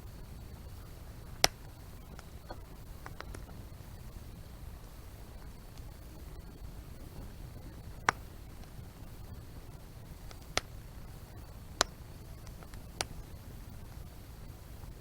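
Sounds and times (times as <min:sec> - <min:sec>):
firewood crackling: 0:00.0 - 0:15.0
low rumble of fire: 0:00.0 - 0:15.0
sharp pops from fire: 0:00.0 - 0:15.0.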